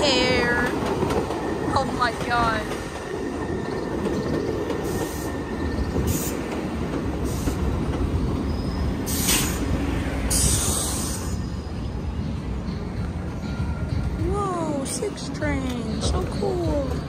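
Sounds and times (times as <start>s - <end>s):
subway train rumbling past: 0.0s - 17.0s.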